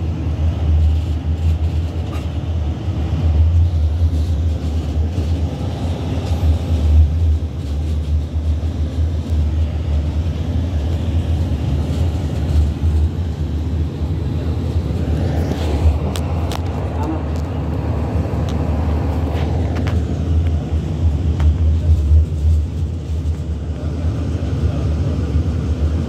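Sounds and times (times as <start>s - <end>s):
tram interior rumble: 0.0s - 26.0s.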